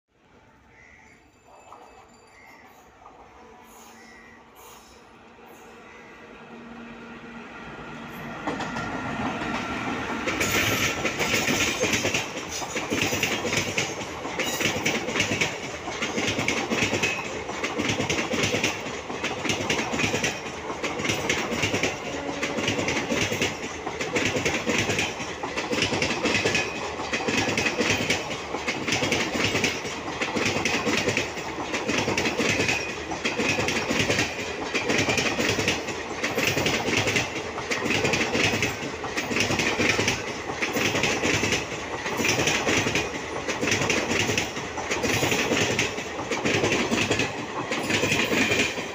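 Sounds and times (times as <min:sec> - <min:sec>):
train wheels clattering over rail joints: 0:08.4 - 0:48.9.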